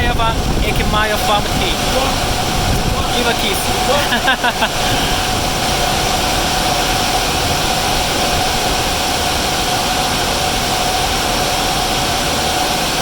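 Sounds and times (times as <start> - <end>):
constant whine: 0.0 - 13.0
cooling fans roaring: 0.0 - 13.0.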